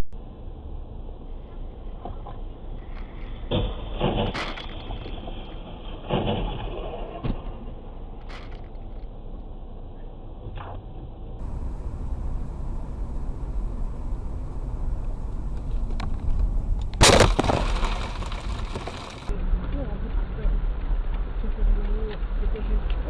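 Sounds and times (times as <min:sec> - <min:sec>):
vehicle rumble: 0:00.2 - 0:23.0.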